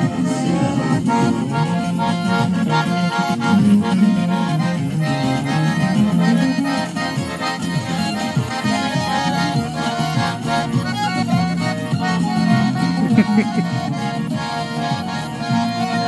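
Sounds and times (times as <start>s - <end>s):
button accordion playing: 0.0s - 16.0s.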